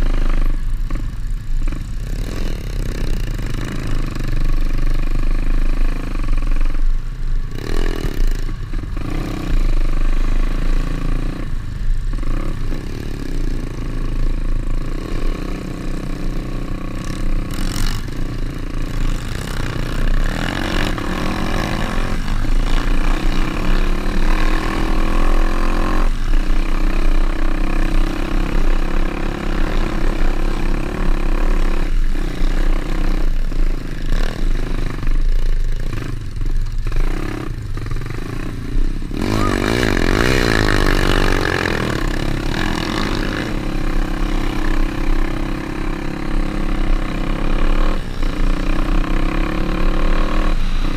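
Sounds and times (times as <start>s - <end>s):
motorbike engine revving: 0.0s - 50.9s.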